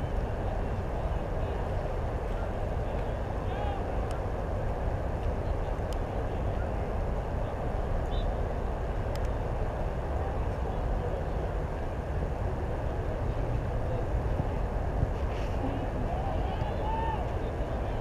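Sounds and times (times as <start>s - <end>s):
faint distant voices: 0.0s - 18.0s
wind on microphone: 0.0s - 18.0s.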